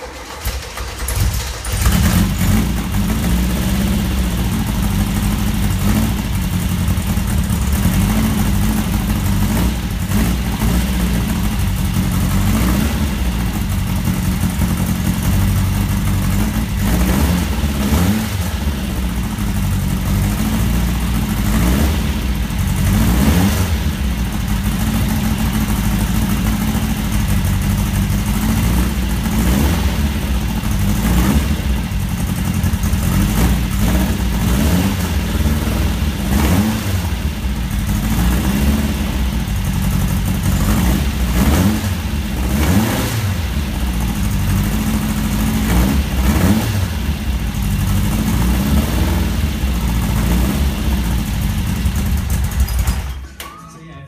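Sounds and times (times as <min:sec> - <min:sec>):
racing car engine revving: 0:00.0 - 0:53.1.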